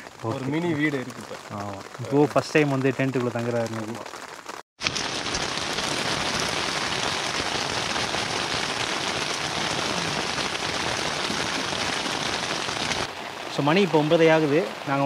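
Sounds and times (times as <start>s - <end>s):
heavy rain on tent fabric: 0.0s - 15.0s.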